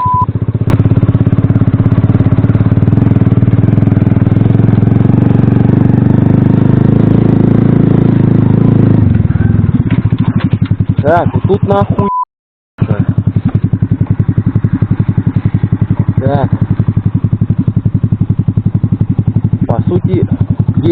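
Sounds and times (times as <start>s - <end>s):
moped engine running: 0.0s - 12.1s, 12.8s - 20.9s.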